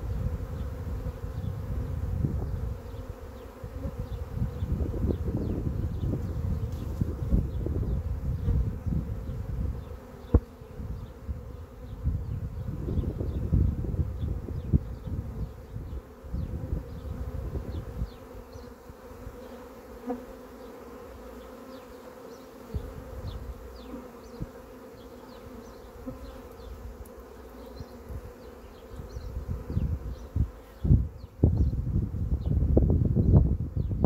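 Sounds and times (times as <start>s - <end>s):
bee swarm buzzing: 0.0s - 34.0s.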